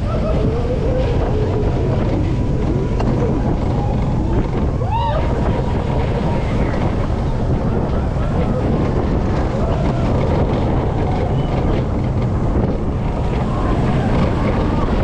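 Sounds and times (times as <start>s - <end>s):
faint riders' voices: 0.0s - 15.0s
rider whooping: 0.0s - 15.0s
roller coaster train on track: 0.0s - 15.0s
wind rushing over microphone: 0.0s - 15.0s.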